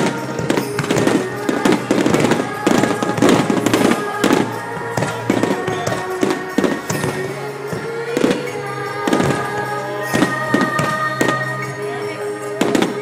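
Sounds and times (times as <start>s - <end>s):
taiko drums: 0.0s - 11.6s
fireworks bursting: 0.0s - 13.0s.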